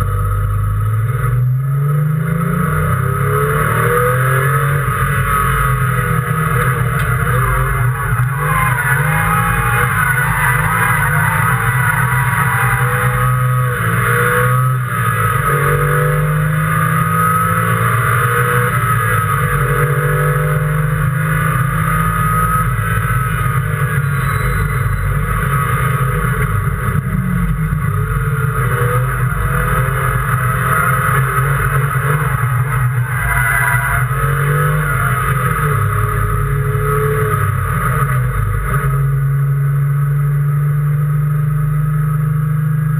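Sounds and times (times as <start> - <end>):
race car engine revving: 0.0 - 41.5.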